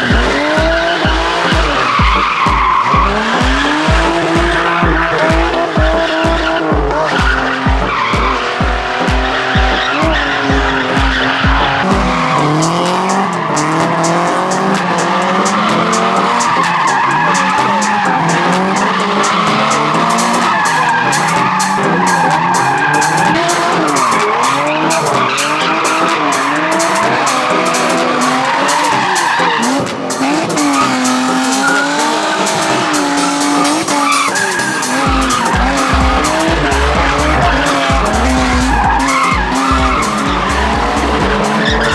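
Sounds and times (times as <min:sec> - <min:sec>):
car engines revving: 0:00.0 - 0:41.9
music with a steady beat: 0:00.0 - 0:41.9
tire squeal: 0:00.0 - 0:41.9.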